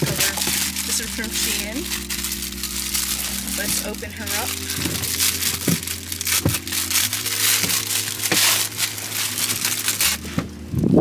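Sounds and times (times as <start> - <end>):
plastic bag crinkling: 0.0 - 10.7
soft background music: 0.0 - 11.0.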